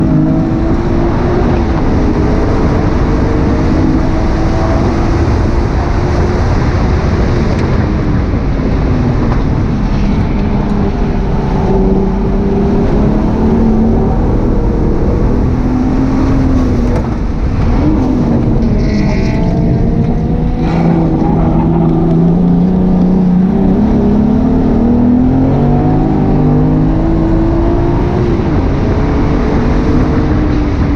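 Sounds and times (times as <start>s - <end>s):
car engine driven hard: 0.0s - 30.9s
road and wind noise: 0.0s - 30.9s.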